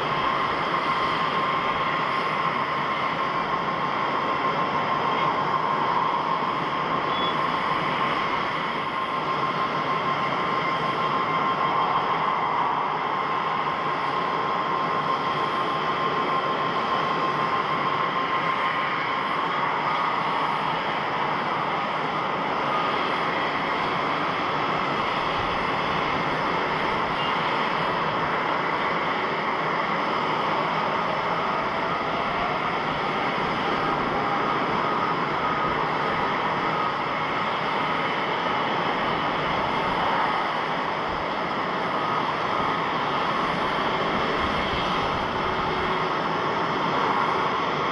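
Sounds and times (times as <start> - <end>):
faint jet engine whine: 0.0 - 47.9
jet engines rushing: 0.0 - 47.9.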